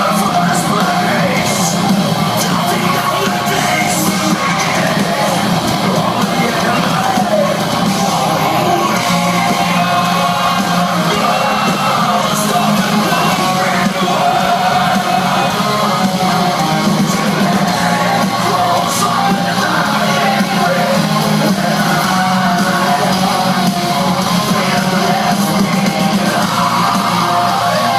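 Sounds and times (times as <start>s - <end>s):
distorted guitars: 0.0s - 27.9s
drums: 0.0s - 27.9s
person singing and shouting: 0.0s - 27.9s.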